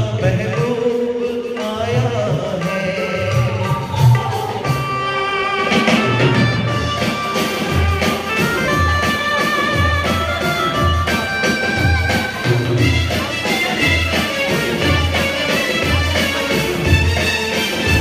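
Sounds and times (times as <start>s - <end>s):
held melody notes: 2.7s - 18.0s.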